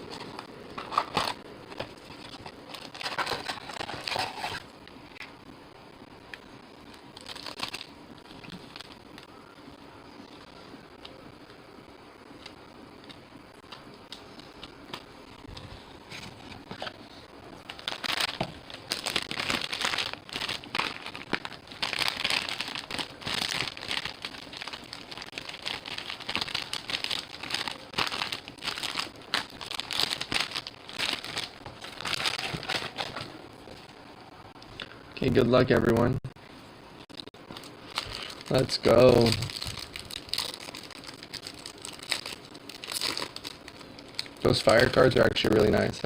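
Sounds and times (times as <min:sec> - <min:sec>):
plastic wrapping crinkling and tearing: 0:00.0 - 0:04.7, 0:06.9 - 0:09.3, 0:12.4 - 0:33.9, 0:37.0 - 0:46.0.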